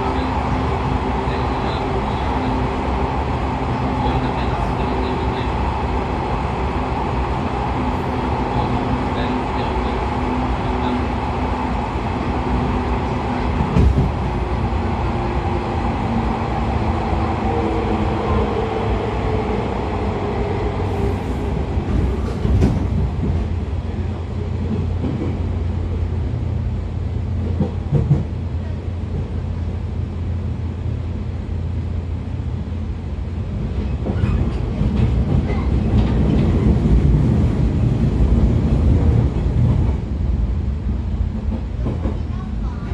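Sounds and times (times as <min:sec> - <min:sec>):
electric train low rumble: 0:00.0 - 0:42.9.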